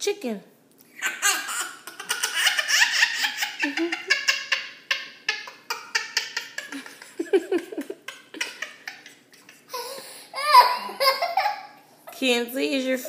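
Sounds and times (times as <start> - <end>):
toddler giggling and squealing: 1.0 - 11.8.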